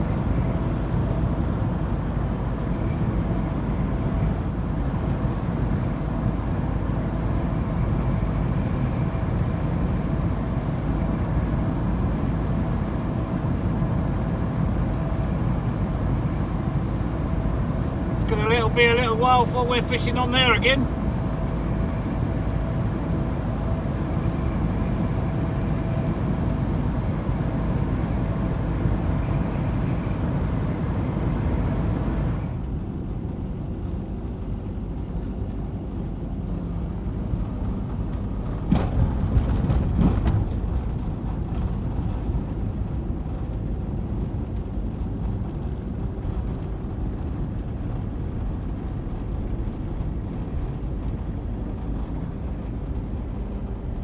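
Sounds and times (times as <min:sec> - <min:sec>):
van engine and tyre noise: 0:00.0 - 0:54.0.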